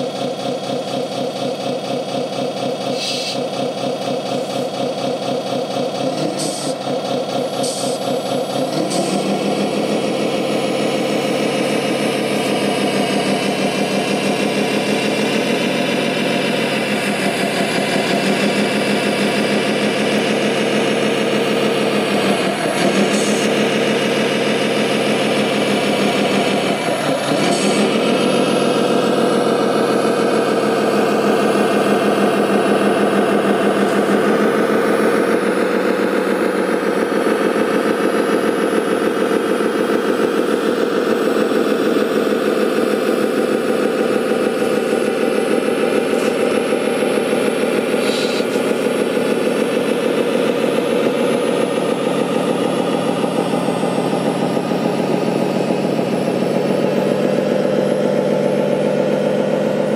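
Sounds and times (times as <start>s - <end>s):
model tractor engine running: 0.0s - 59.9s.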